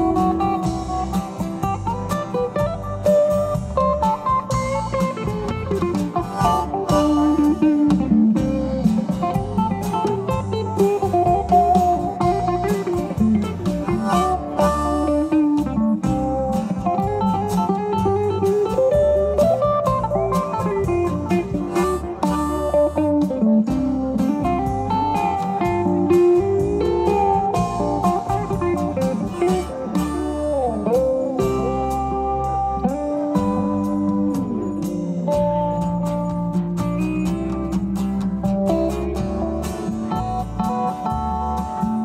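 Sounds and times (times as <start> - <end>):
guitar: 0.0 - 42.0
live band playing: 0.0 - 42.0.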